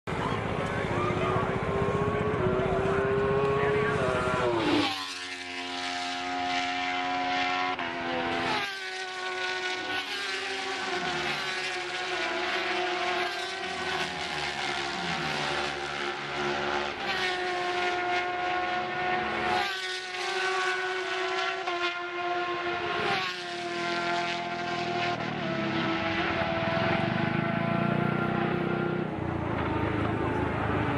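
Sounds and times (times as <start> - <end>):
racing motorcycles revving: 0.1 - 30.9.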